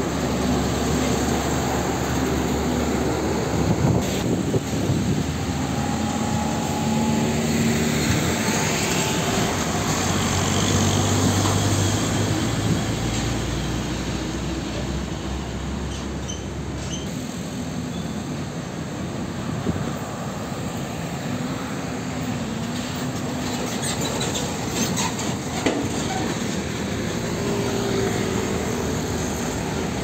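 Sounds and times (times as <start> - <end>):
diesel truck engine drone: 0.0 - 30.0.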